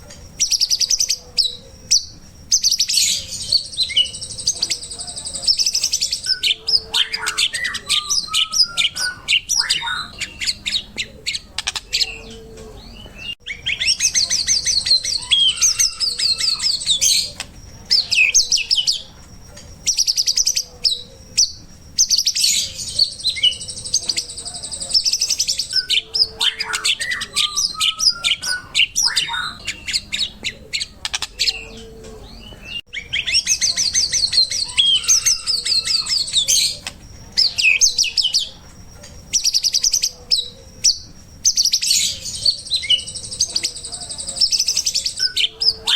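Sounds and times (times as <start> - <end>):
bird singing trills and whistles: 0.0 - 45.9.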